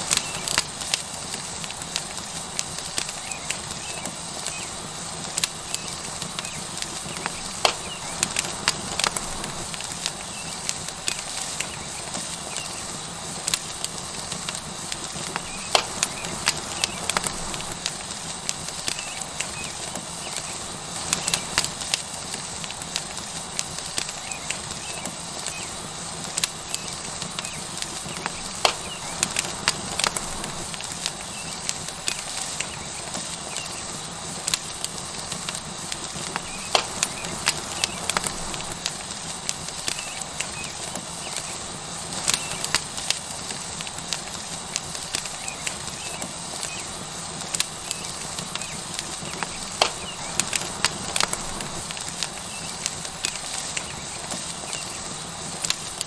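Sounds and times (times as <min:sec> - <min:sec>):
fire crackles and pops: 0:00.0 - 0:56.0
steak sizzling: 0:00.0 - 0:56.0.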